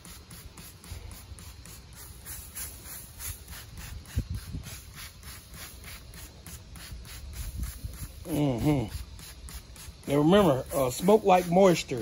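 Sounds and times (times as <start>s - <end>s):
spray bottle squirting: 0.0s - 12.0s.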